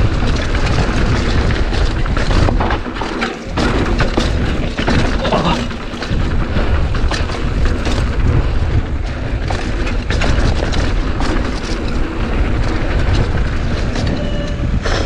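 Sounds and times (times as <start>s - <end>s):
bike rattling over rough trail: 0.0s - 15.0s
wind buffeting microphone: 0.0s - 15.0s.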